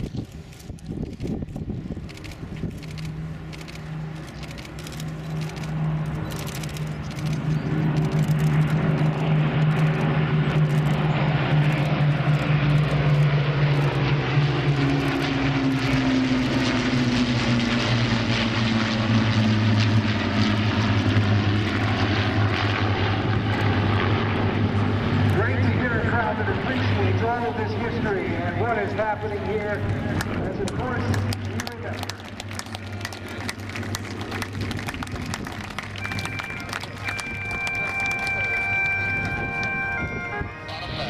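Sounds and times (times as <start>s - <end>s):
propeller aircraft engines droning: 0.0s - 41.0s.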